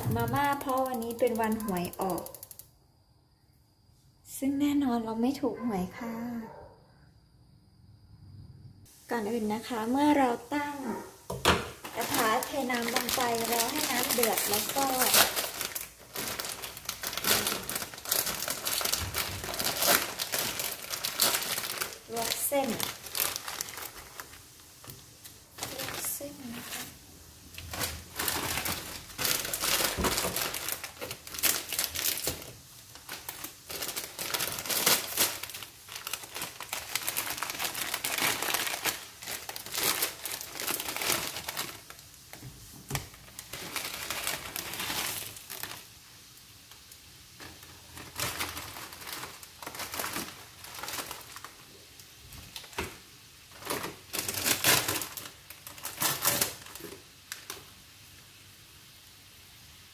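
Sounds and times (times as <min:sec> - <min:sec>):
plastic packaging crinkling: 0:00.0 - 0:02.6, 0:11.8 - 0:57.8.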